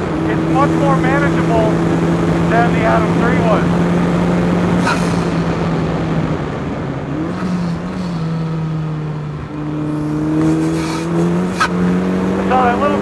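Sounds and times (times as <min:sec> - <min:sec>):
car engine running hard: 0:00.0 - 0:13.0.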